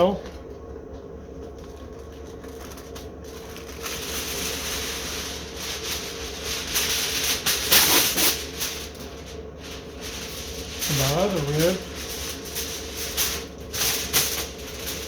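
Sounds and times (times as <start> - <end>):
aluminium foil crinkling: 1.4 - 15.0.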